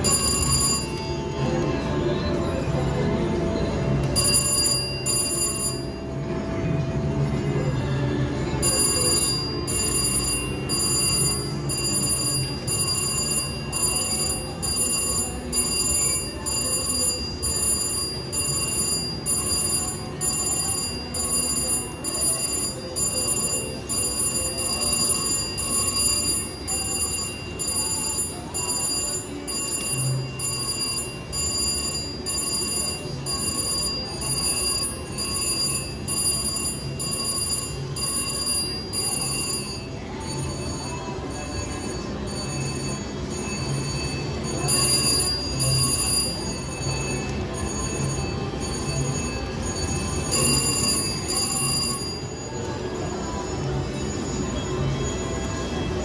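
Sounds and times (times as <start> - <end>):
slot machine bell-like chiming: 0.0 - 56.0.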